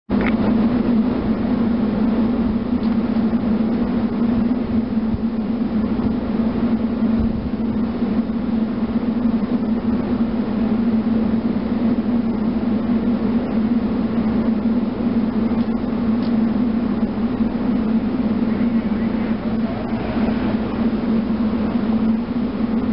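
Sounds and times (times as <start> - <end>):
low mechanical hum: 0.1 - 22.9
rough low rumble: 0.1 - 22.9.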